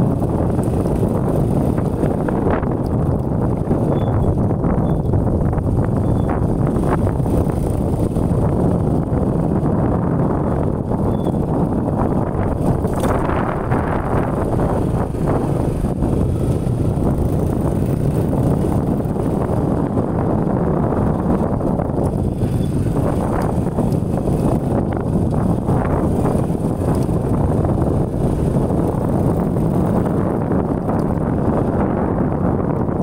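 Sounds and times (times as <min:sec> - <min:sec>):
motorcycle running: 0:00.0 - 0:33.0
wind buffeting microphone: 0:00.0 - 0:33.0.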